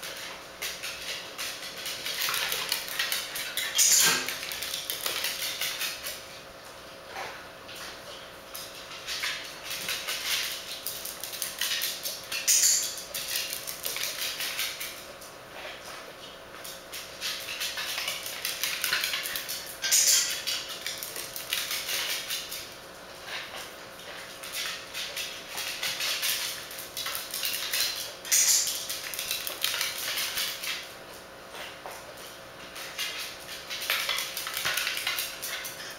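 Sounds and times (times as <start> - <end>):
dog claws clicking on tile floor: 0.0 - 35.9.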